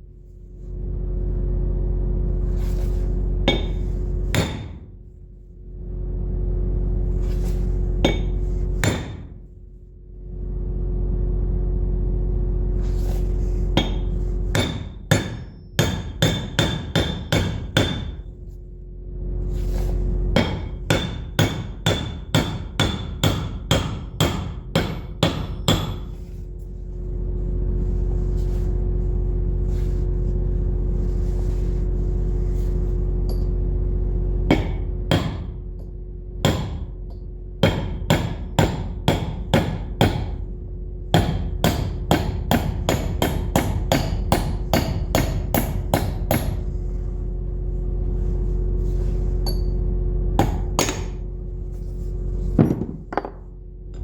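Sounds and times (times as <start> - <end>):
steady machine hum: 0.0 - 54.0.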